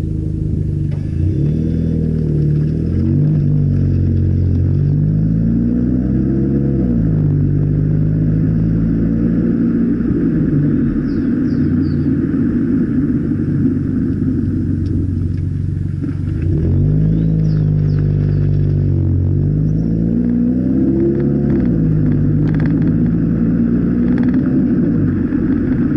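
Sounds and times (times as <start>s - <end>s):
car exhaust idling and revving: 0.0s - 25.9s.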